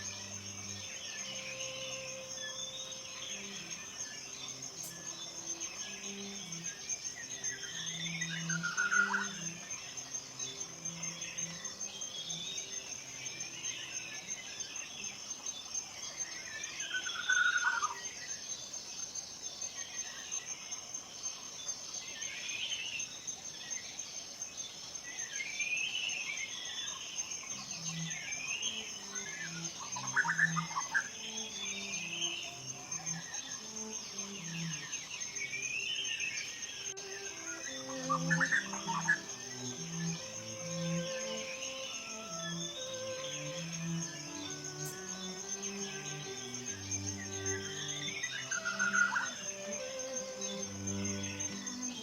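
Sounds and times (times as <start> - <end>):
forest birds singing: 0.0 - 52.0
high insect trill: 0.0 - 52.0.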